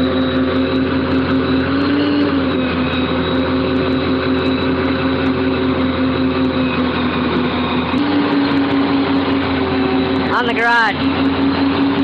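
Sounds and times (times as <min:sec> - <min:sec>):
crane truck engine running: 0:00.0 - 0:12.0.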